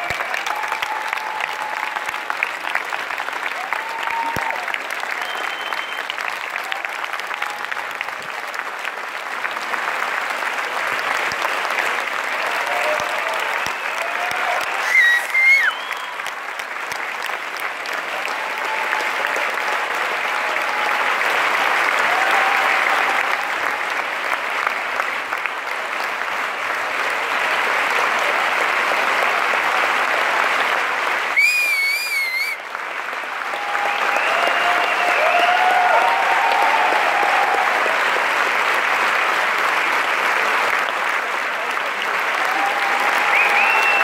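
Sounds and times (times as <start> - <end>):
audience clapping: 0.0 - 44.0.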